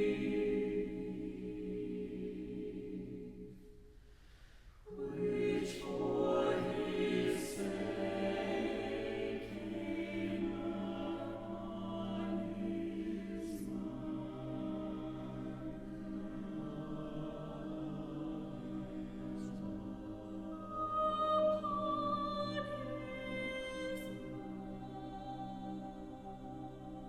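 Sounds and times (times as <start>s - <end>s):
choir singing sustained chords: 0.0s - 27.0s.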